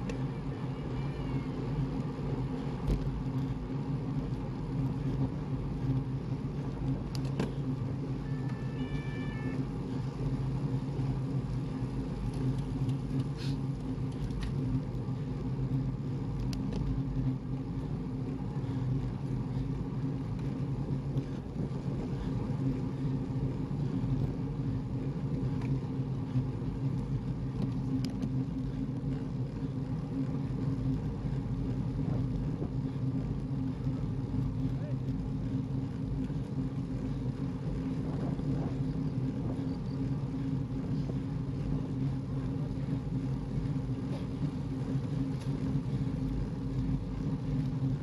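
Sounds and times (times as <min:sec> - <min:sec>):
car engine drone: 0:00.0 - 0:48.0
road noise: 0:00.0 - 0:48.0.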